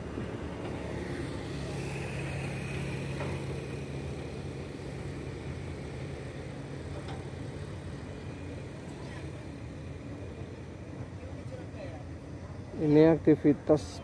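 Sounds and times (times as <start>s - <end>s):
distant construction machinery engines: 0.0s - 14.0s.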